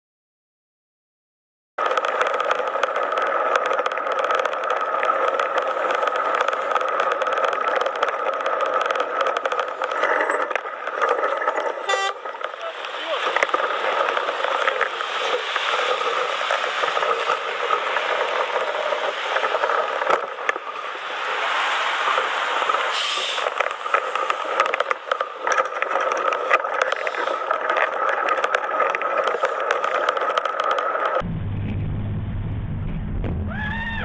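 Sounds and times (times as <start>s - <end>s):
clicks and crackles: 1.8s - 31.2s
vehicle noise: 1.8s - 34.0s.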